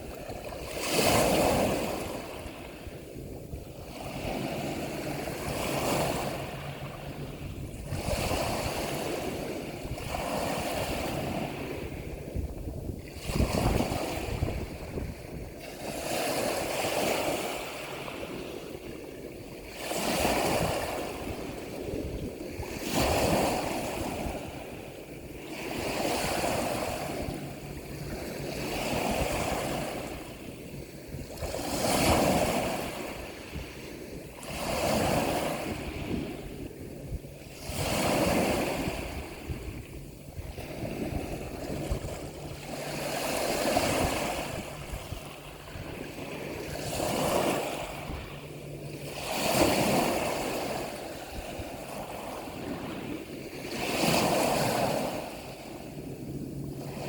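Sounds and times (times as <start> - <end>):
ocean waves surging: 0.0 - 57.0.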